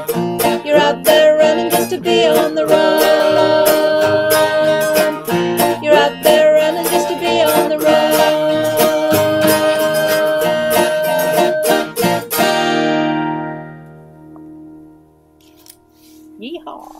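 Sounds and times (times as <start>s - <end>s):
acoustic band plucked strings: 0.0s - 16.9s.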